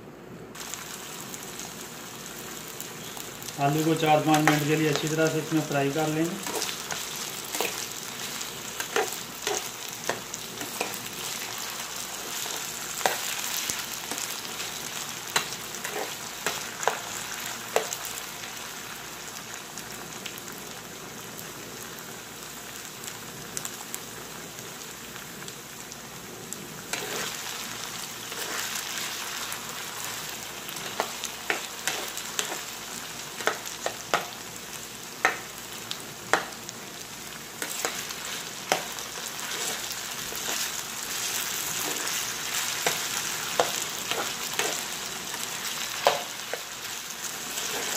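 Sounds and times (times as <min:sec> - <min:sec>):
potatoes sizzling in oil: 0:00.5 - 0:47.9.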